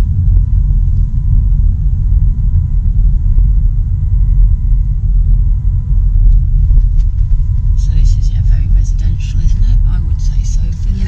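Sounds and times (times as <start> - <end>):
car driving rumble: 0.0 - 11.0
road and wind noise: 0.0 - 11.0.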